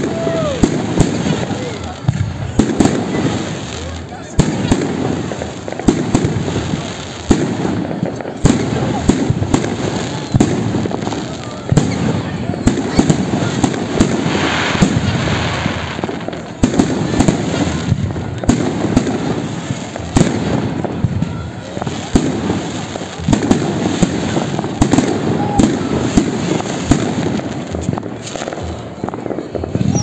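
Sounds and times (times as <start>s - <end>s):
fireworks bangs: 0.0s - 30.0s
fireworks crackle and fizz: 0.0s - 30.0s.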